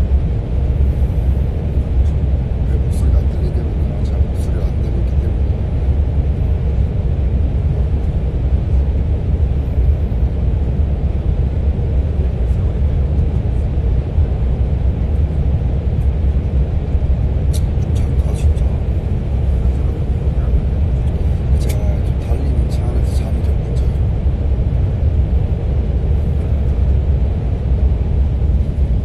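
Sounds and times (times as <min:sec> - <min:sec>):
train rumbling from inside carriage: 0:00.0 - 0:29.0.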